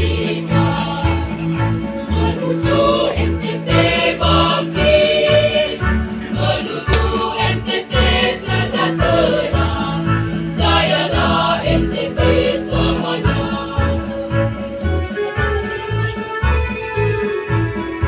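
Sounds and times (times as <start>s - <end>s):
choir singing: 0.0s - 14.5s.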